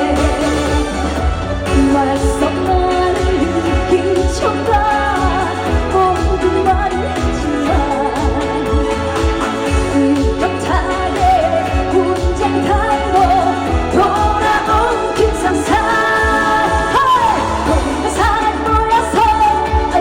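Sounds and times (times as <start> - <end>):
amplified backing track with kick drum: 0.0 - 20.0
woman singing: 0.0 - 20.0.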